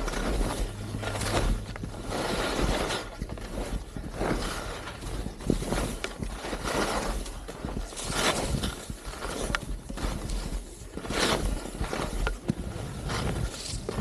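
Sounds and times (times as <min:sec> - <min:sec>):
skis scraping over snow: 0:00.0 - 0:14.0
wind rumble on microphone: 0:00.0 - 0:14.0.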